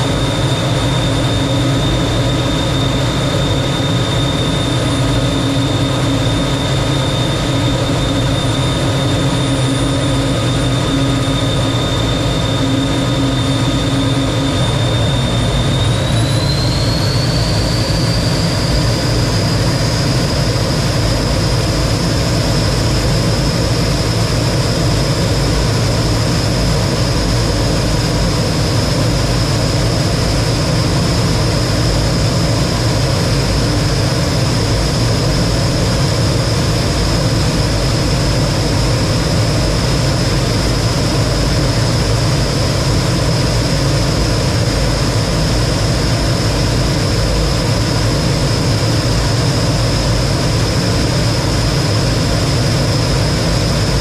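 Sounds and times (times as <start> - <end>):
jet engine whine and rumble: 0.0 - 54.0.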